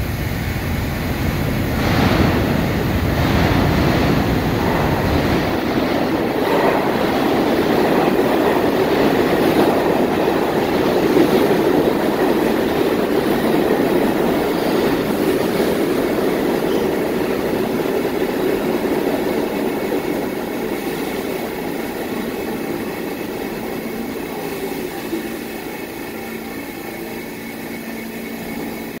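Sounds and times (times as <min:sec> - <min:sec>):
low train hum: 0:00.0 - 0:29.0
subway train wheels rumbling on rail: 0:00.0 - 0:29.0.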